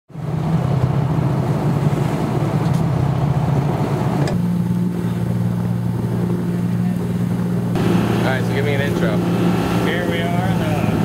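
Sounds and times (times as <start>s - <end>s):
boat engine droning: 0.1s - 11.0s
rushing wind and water: 0.1s - 11.0s.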